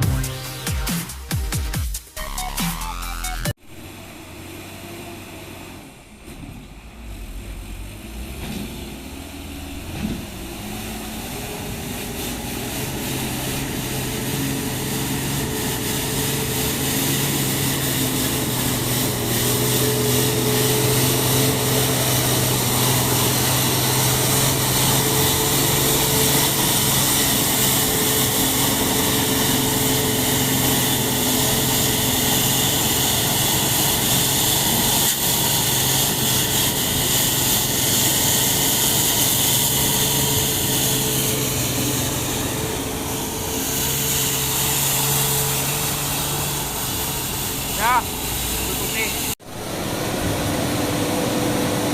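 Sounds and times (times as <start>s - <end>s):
truck engine humming: 0.0s - 51.9s.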